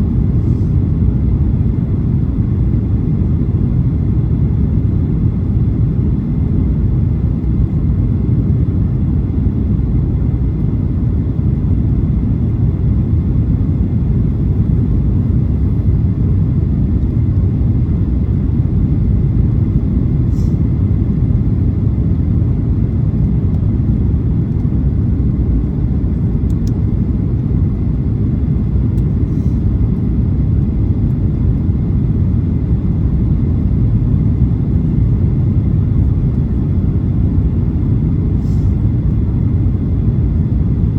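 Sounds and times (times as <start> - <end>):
airliner engines rumbling: 0.0 - 40.9.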